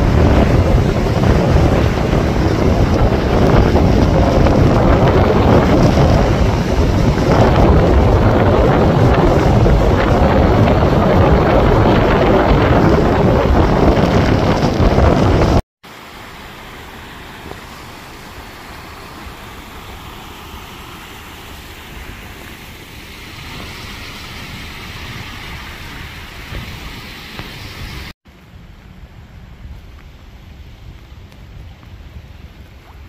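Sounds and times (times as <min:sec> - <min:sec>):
storm wind buffeting microphone: 0:00.0 - 0:15.6, 0:17.4 - 0:33.0
steady rush of wind: 0:00.0 - 0:33.0.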